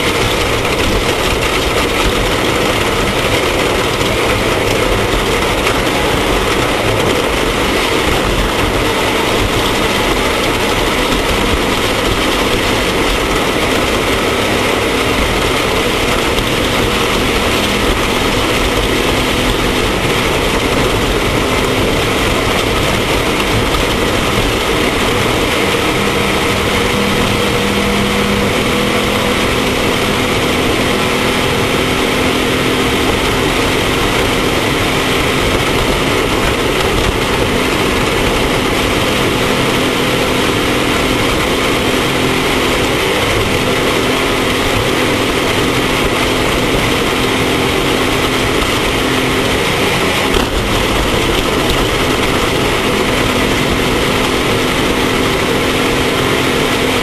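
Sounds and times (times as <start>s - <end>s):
loud rushing noise: 0.0s - 57.0s
vehicle engine running: 0.0s - 57.0s.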